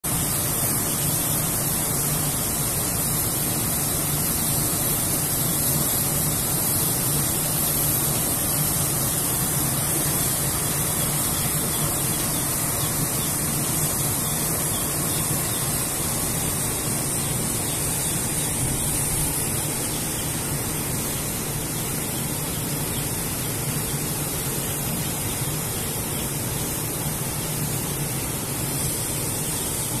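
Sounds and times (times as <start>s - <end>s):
hot air blower fan rushing: 0.0s - 30.0s.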